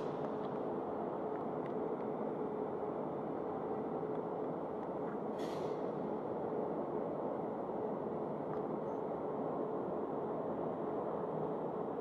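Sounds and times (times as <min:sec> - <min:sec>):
train hum and rumble: 0:00.0 - 0:12.0.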